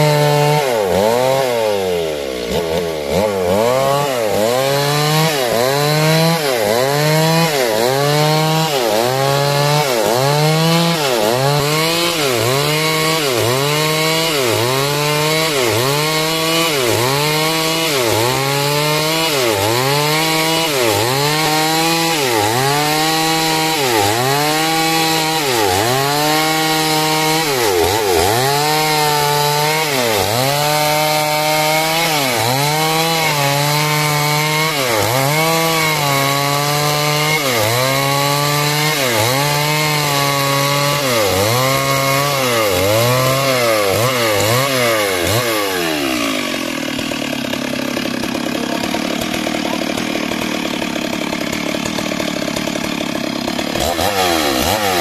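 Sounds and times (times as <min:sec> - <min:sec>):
chainsaw cutting timber: 0:00.0 - 0:55.0.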